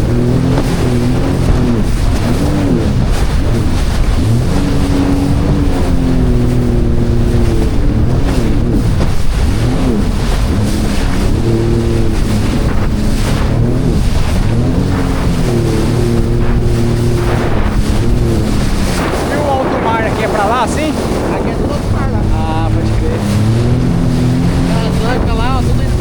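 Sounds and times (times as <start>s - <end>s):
jet ski engine running: 0.0s - 26.0s
wind on microphone: 0.0s - 26.0s.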